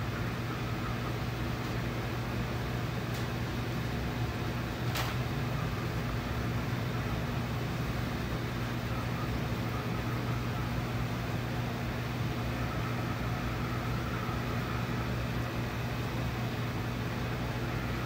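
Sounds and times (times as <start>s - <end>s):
air conditioner hum: 0.0s - 18.0s.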